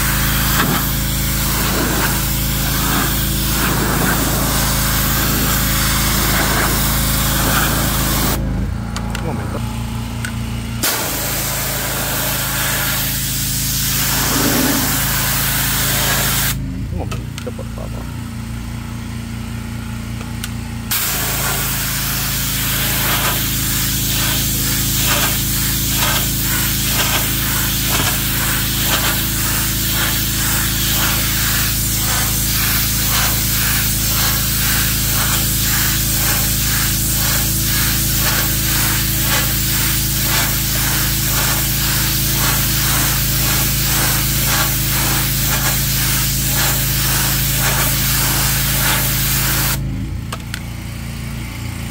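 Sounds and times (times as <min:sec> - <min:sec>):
high-pressure water jet hissing: 0:00.0 - 0:08.4, 0:10.8 - 0:16.6, 0:20.9 - 0:49.8
pressure washer motor humming: 0:00.0 - 0:51.2.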